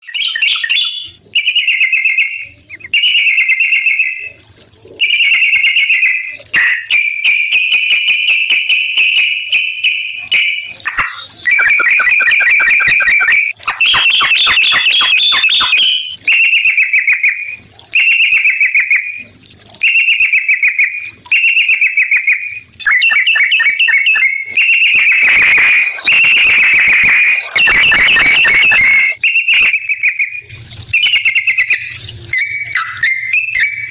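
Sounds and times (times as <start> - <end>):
bulbul chattering song: 0.0 - 4.4, 5.0 - 33.9.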